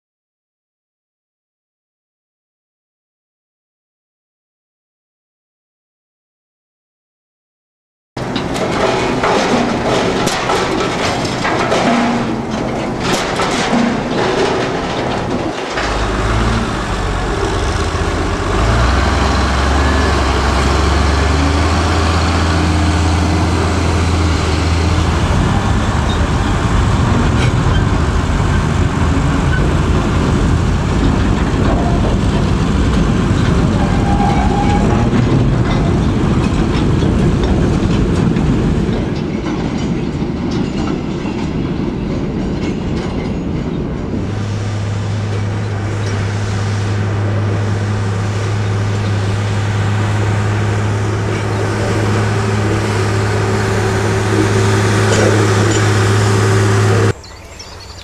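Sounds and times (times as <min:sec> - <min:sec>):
diesel engine hum: 0:08.2 - 0:43.0, 0:43.8 - 0:58.0
wheels rattling on rails: 0:08.2 - 0:58.0.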